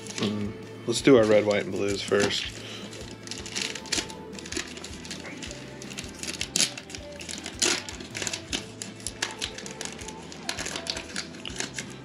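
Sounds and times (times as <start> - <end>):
plastic wrapper crinkling and tearing: 1.2 - 12.0.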